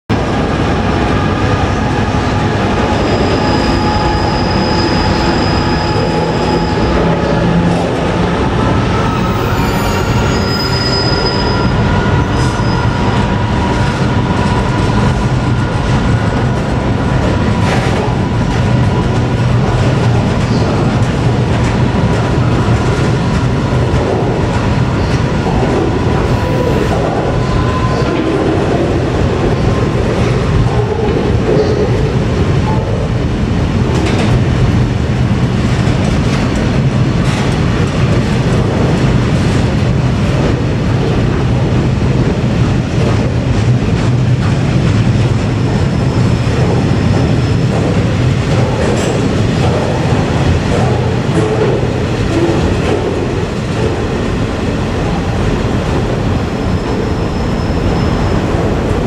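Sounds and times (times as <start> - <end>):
wheels rumbling on rail: 0.1 - 59.0.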